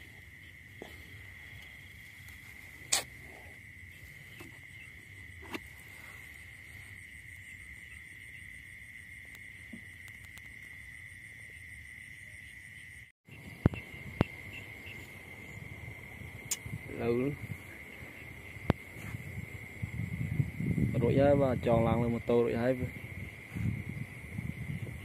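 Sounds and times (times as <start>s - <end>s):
night insects trilling: 0.0s - 25.0s.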